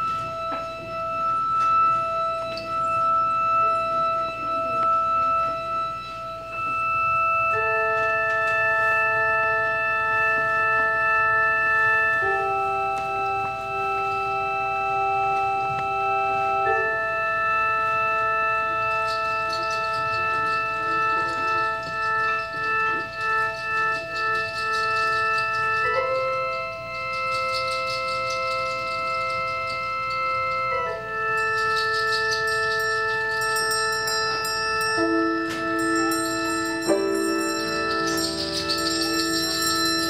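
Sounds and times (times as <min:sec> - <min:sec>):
ensemble playing held chords: 0:00.0 - 0:40.0.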